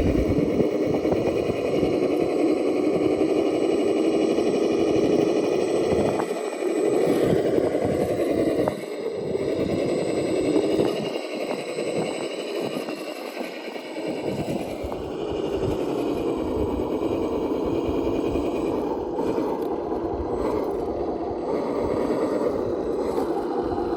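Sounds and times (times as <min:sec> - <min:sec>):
electric motor and gearbox whine: 0:00.0 - 0:23.9.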